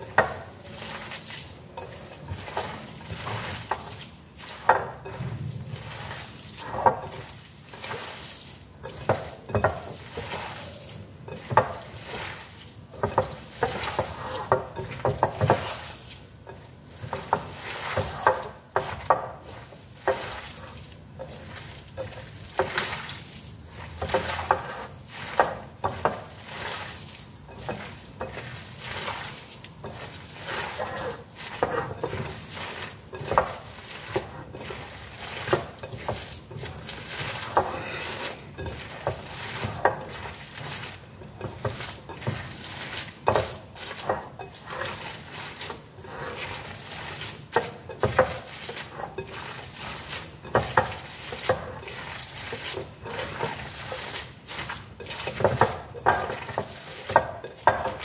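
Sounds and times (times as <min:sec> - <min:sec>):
hands squelching wet filling: 0:00.0 - 0:58.0.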